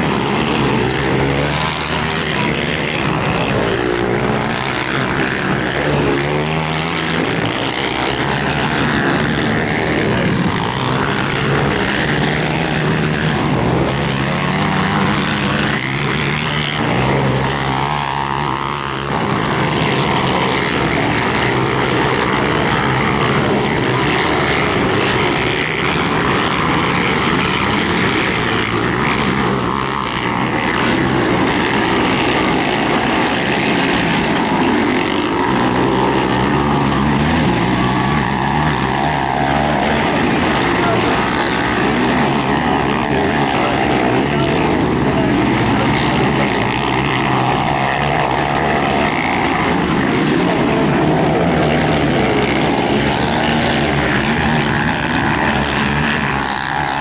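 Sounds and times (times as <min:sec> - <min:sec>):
quad engines revving: 0:00.0 - 0:57.0.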